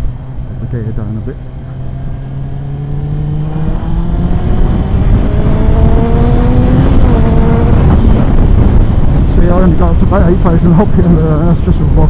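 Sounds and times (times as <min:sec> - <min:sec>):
motorcycle engine accelerating hard: 0:00.0 - 0:12.0.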